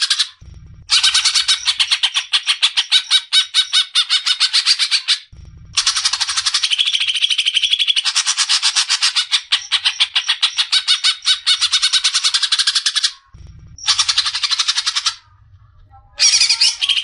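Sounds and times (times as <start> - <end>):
bird singing harsh rapid notes: 0.0 - 13.2, 16.2 - 17.0.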